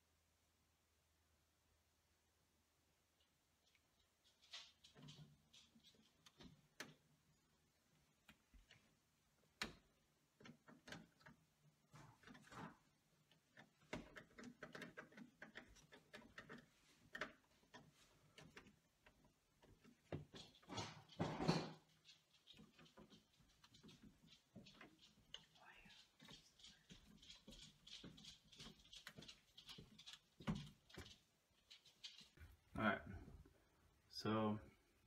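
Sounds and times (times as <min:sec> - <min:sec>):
wires clicking and rustling: 0:03.2 - 0:33.5.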